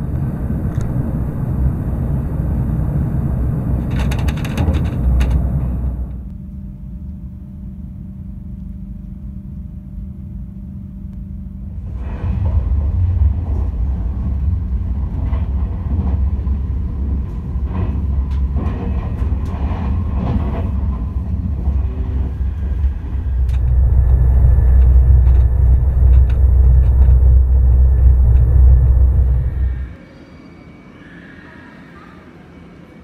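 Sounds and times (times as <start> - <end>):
train running rumble: 0.0 - 6.9, 9.9 - 30.0.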